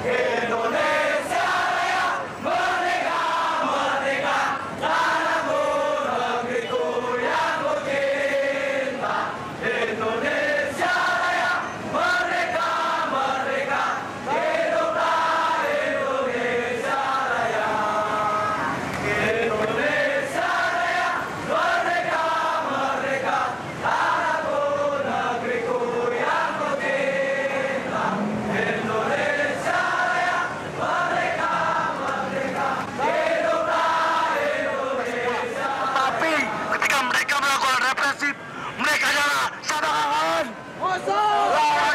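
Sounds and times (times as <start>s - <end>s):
crowd chanting in unison: 0.0s - 37.0s.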